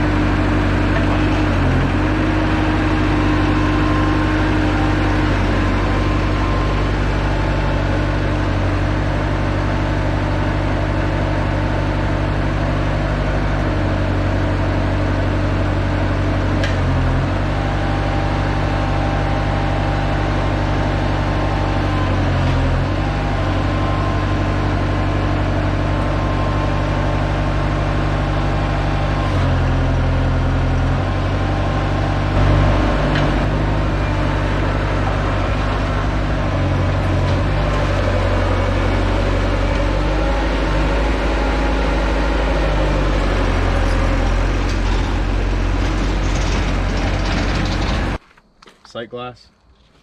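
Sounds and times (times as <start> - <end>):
track loader engine running: 0.0 - 48.9.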